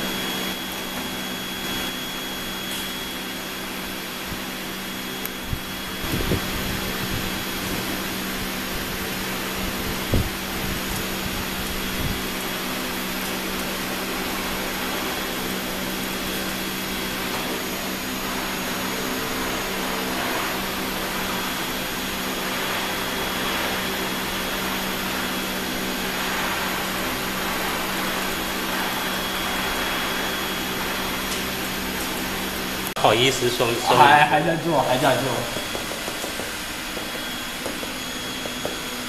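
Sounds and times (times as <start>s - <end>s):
blower rushing air and humming: 0.0s - 39.0s.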